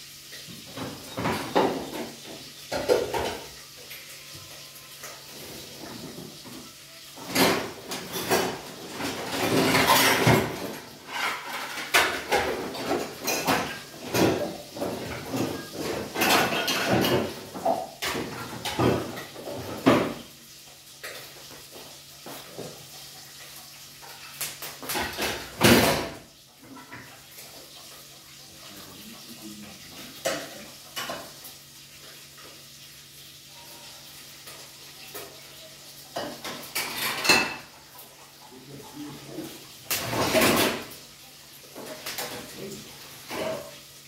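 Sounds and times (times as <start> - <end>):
dishes clinking in a sink: 0.3 - 32.6, 33.5 - 43.9.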